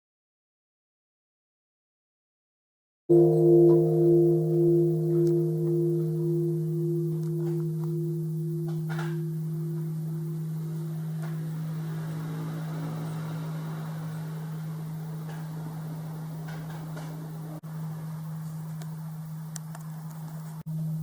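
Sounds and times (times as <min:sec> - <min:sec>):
temple bell ringing: 0:03.1 - 0:20.1.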